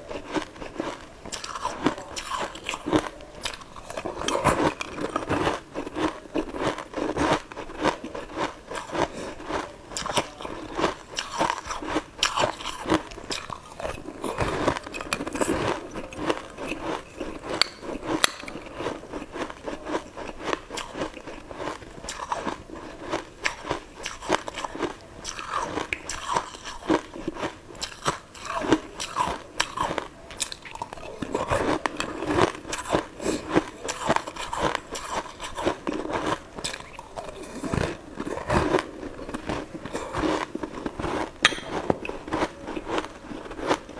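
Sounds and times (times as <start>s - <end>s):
crunching and chewing: 0.0s - 43.9s.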